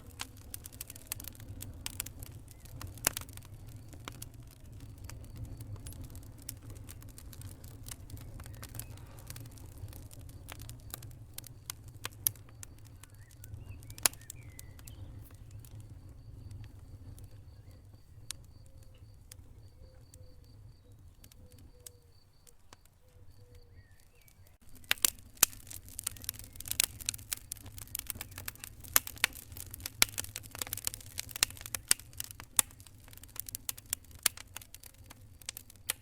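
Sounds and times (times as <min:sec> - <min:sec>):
low rumble of burning: 0:00.0 - 0:36.0
wood fire crackling: 0:00.0 - 0:36.0.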